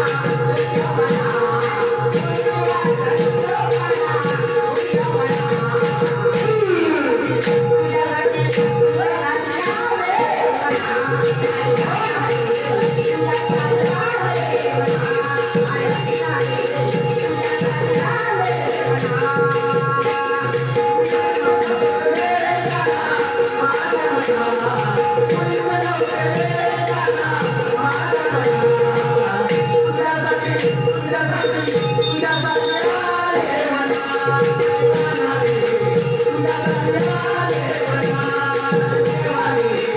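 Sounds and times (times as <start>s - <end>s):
hand cymbals jingling: 0.0s - 39.9s
person singing devotional song: 0.0s - 39.9s.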